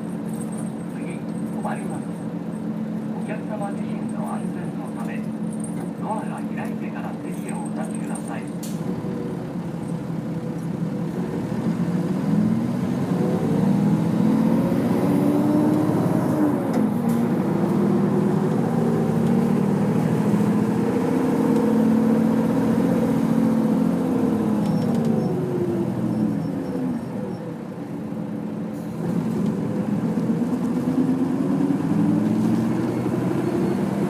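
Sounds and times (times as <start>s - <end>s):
bus diesel engine accelerating: 0.0s - 34.0s.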